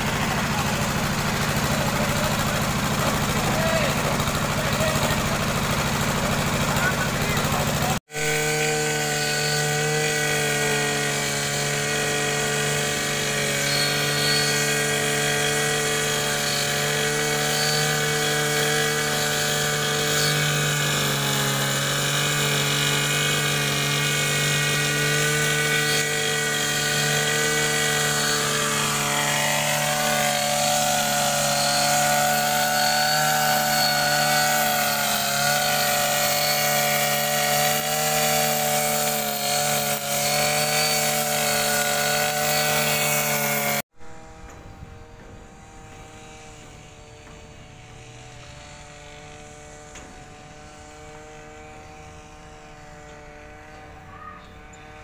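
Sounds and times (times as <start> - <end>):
brush cutter engine running: 0.0 - 55.0.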